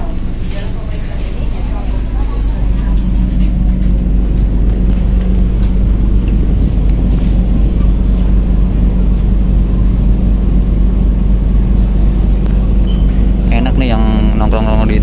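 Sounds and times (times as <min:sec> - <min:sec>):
ship diesel engines rumbling: 0:00.0 - 0:15.0.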